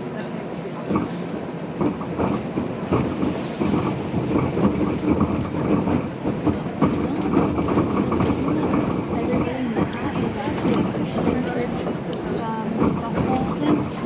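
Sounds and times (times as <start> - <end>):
streetcar rumbling on track: 0.0 - 14.0
wheels clacking and rattling: 1.8 - 14.0.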